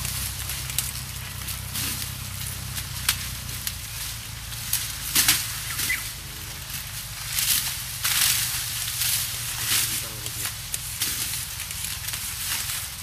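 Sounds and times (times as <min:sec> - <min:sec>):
dry leaves rustling: 0:00.0 - 0:13.0.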